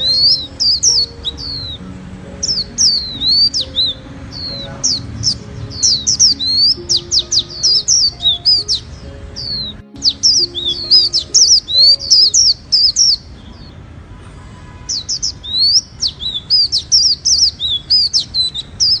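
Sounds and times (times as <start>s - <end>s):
songbird whistled chirps: 0.0s - 1.8s, 2.4s - 13.7s, 14.9s - 19.0s.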